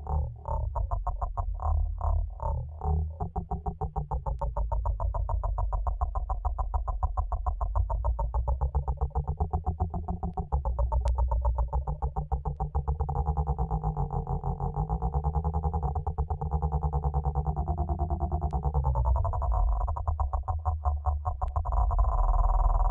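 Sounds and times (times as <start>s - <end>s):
steady low drone: 0.0s - 22.9s.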